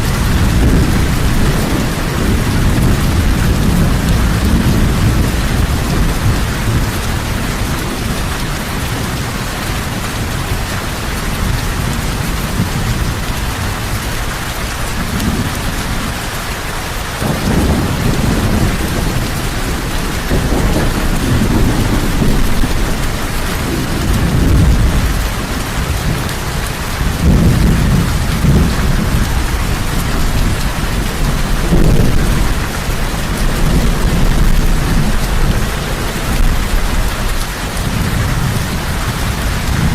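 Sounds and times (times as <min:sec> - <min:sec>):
low rolling thunder: 0:00.0 - 0:16.6, 0:17.2 - 0:39.9
heavy rain falling: 0:00.0 - 0:39.9.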